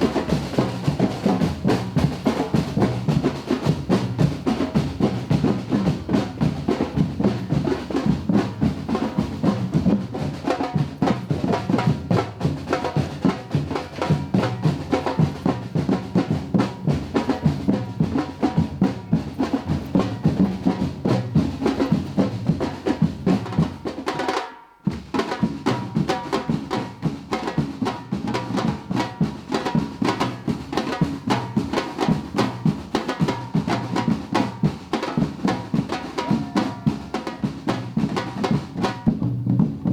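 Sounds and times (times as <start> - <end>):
percussion ensemble drumming: 0.0 - 39.9.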